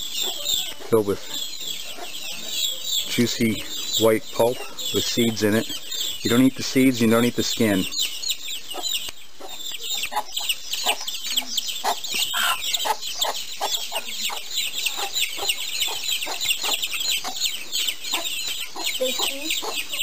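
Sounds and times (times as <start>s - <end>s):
birds chirping: 0.0s - 20.0s
birds clucking: 0.0s - 20.0s.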